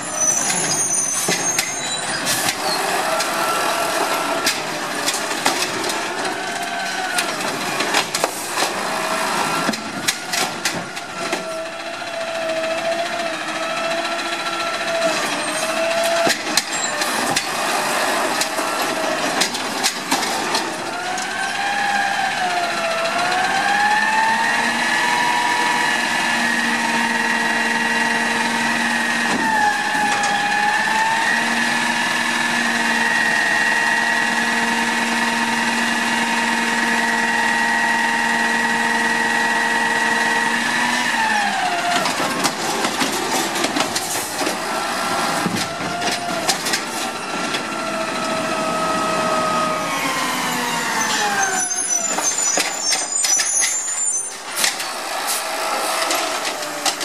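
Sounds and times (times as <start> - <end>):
hydraulic whine: 0.0 - 19.5, 20.5 - 57.0
truck engine revving: 0.0 - 57.0.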